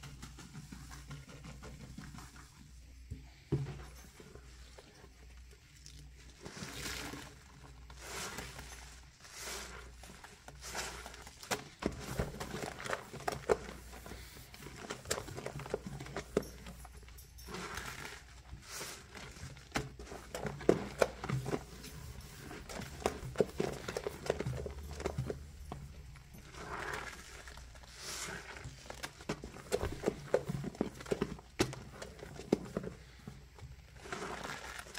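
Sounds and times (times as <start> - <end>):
sponges squelching against sink: 0.0 - 34.9.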